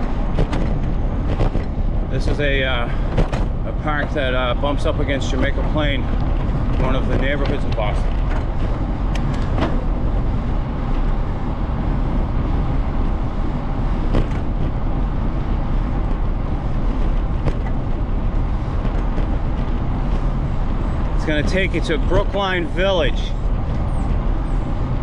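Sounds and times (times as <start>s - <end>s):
tyre noise on pavement: 0.0s - 25.0s
wind rumble on microphone: 0.0s - 25.0s.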